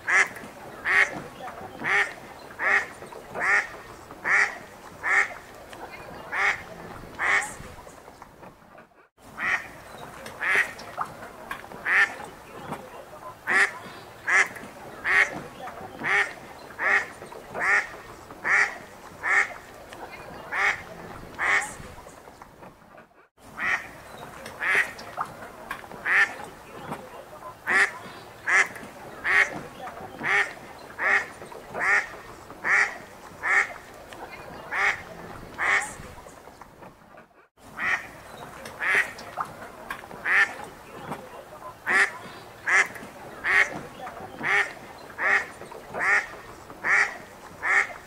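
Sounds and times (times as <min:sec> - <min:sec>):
ducks quacking: 0:00.0 - 0:08.0, 0:09.3 - 0:22.1, 0:23.5 - 0:36.4, 0:37.6 - 0:48.0.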